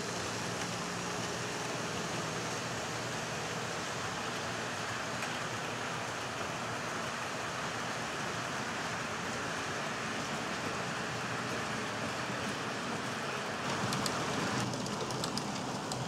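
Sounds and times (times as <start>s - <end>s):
model train wheels rushing on rails: 0.0s - 16.0s.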